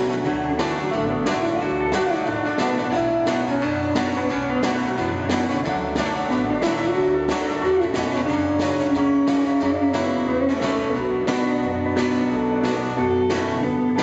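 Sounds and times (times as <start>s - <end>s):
guitar bending notes: 0.0s - 14.0s
live rock band playing: 0.0s - 14.0s.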